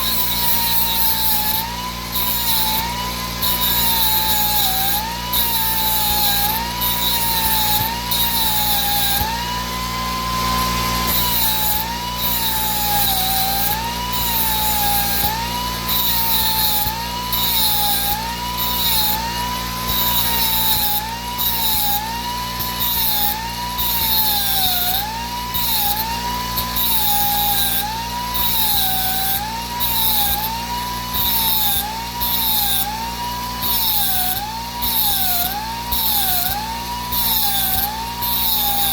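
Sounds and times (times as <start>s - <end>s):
die grinder whining: 0.0s - 38.9s
rasping grind on blade teeth: 0.0s - 38.9s.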